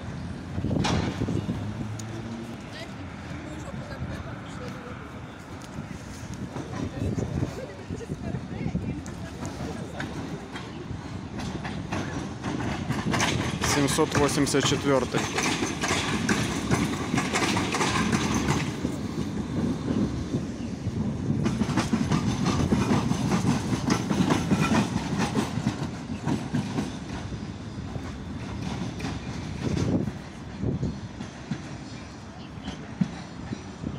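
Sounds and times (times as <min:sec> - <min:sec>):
clacking tram wheels: 0:00.0 - 0:33.9
tram rumbling: 0:00.0 - 0:33.9.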